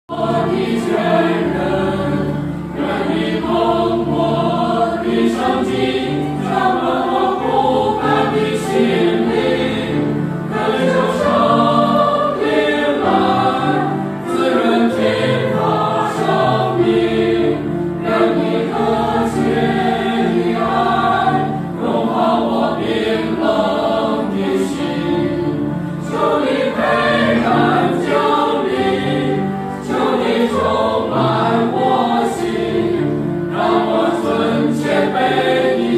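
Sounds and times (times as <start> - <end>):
choir singing: 0.1 - 35.9.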